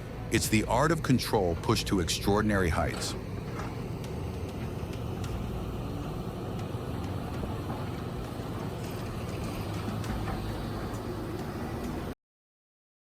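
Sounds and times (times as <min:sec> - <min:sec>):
heavy machine engine rumbling: 0:00.0 - 0:12.2.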